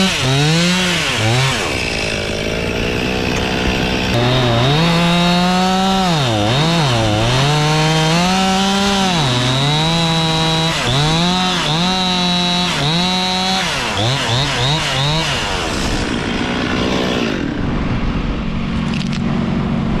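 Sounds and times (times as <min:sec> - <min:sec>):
chainsaw throttle blips: 0:00.0 - 0:17.6
chainsaw cutting wood: 0:00.0 - 0:17.8.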